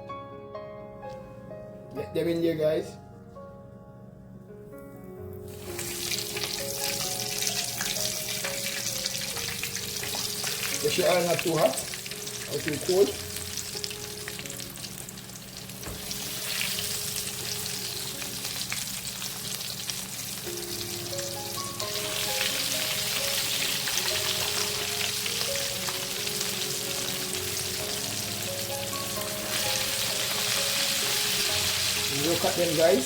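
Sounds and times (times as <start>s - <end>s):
chicken deep-frying in oil: 5.5s - 33.0s.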